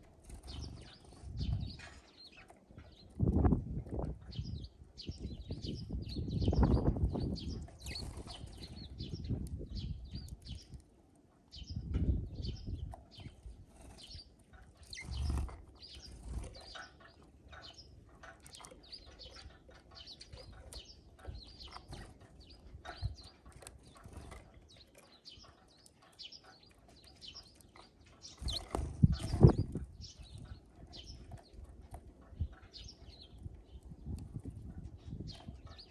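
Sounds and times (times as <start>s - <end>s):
songbirds chirping: 0.0s - 35.9s.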